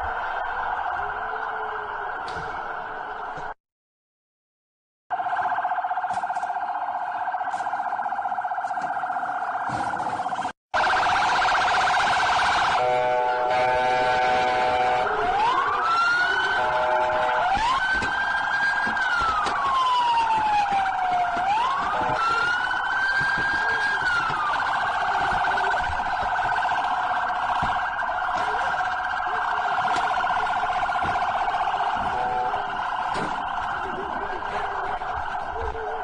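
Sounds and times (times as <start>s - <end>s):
police siren: 0.0s - 3.6s, 5.1s - 36.0s.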